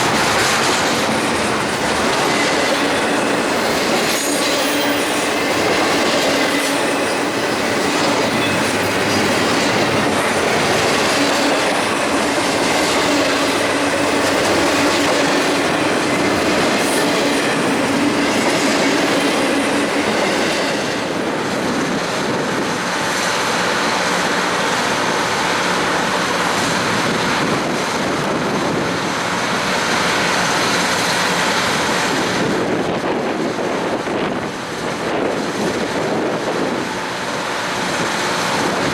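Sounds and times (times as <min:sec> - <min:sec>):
train rolling on rails: 0:00.0 - 0:38.9.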